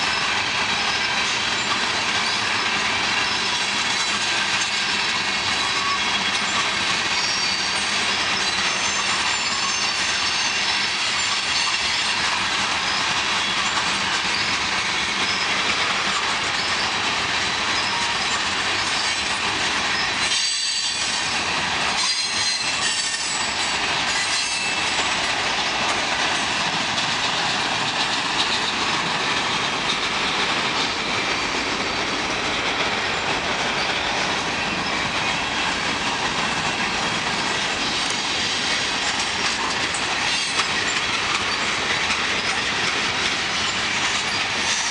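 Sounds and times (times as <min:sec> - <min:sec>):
freight train cars rolling past: 0:00.0 - 0:44.9
train wheels squealing: 0:00.0 - 0:44.9
wheels clacking over rail joints: 0:00.0 - 0:44.9.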